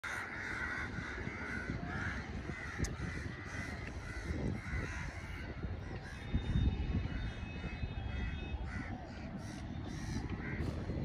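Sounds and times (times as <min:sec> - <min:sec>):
crows cawing: 0:00.0 - 0:06.4, 0:07.0 - 0:11.0.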